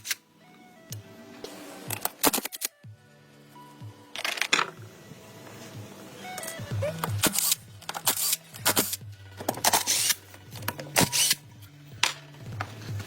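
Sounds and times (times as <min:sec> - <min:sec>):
background music with bass line: 0:00.0 - 0:13.0.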